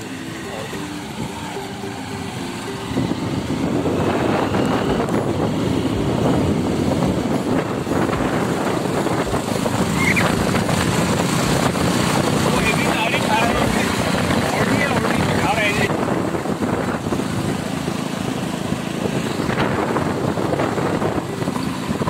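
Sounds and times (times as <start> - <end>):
motorcycle engine: 0.0 - 22.0
wind buffeting microphone: 0.0 - 22.0.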